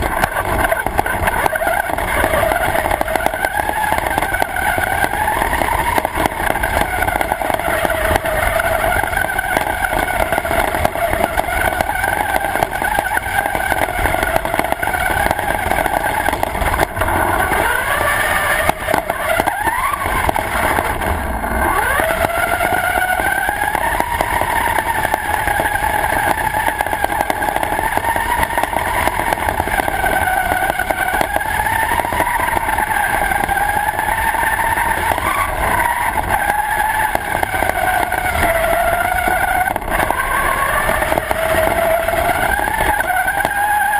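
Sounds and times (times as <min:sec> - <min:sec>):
rc car motor whining: 0:00.0 - 0:43.9.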